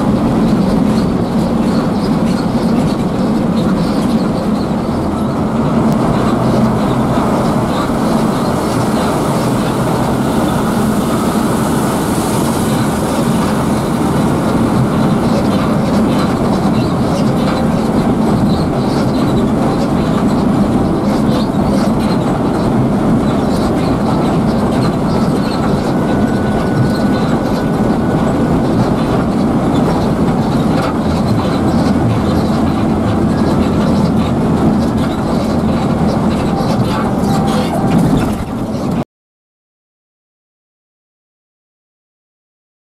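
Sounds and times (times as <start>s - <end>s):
coach engine drone: 0.0s - 39.0s
road noise: 0.0s - 39.0s.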